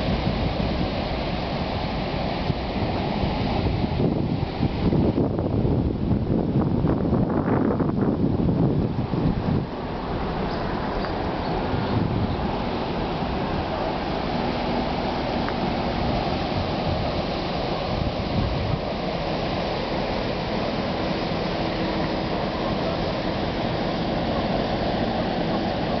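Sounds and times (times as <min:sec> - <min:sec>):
waterfall rushing: 0:00.0 - 0:06.2, 0:08.4 - 0:26.0.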